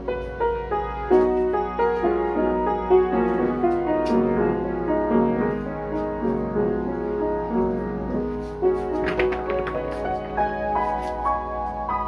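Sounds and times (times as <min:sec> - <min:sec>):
grand piano playing: 0:00.0 - 0:12.0.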